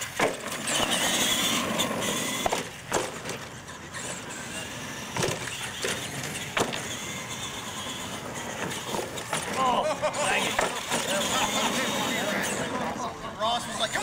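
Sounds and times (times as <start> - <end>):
toy truck driving on concrete: 0.0 - 14.0.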